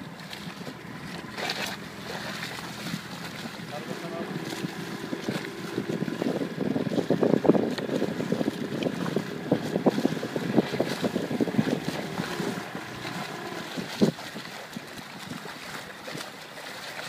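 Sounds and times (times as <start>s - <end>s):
wind buffeting microphone: 0.0s - 16.3s
water splashing against hull: 0.0s - 17.0s.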